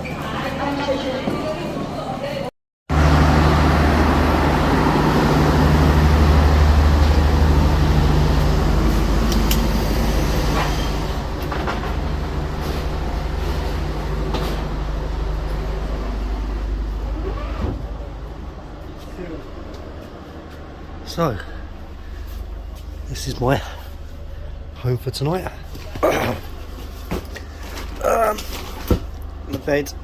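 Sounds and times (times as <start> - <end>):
diesel train drone: 2.9 - 28.0.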